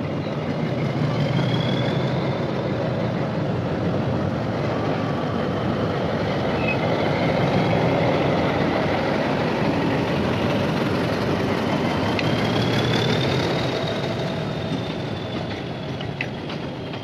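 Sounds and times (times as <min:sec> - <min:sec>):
train wagons rumbling past: 0:00.0 - 0:17.0.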